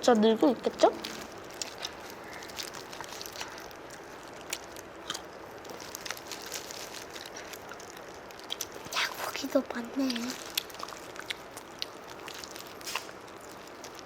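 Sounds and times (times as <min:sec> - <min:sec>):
steady low hiss: 0:00.0 - 0:14.0
crunchy chewing of fried chicken: 0:00.8 - 0:14.0.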